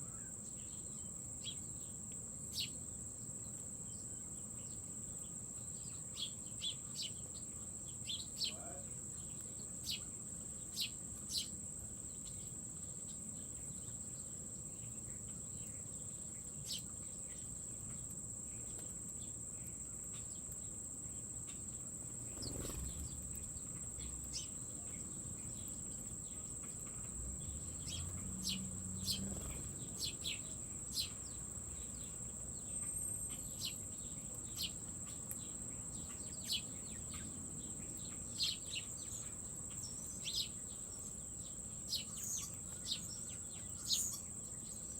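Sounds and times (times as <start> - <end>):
insects trilling: 0.0 - 44.9
small birds chirping: 0.0 - 44.9.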